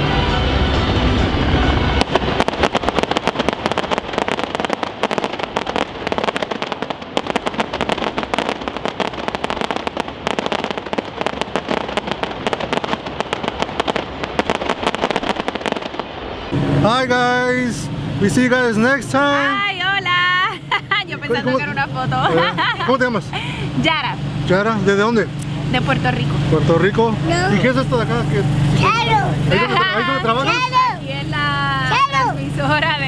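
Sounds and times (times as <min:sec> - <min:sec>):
fireworks crackling: 0:00.0 - 0:33.0.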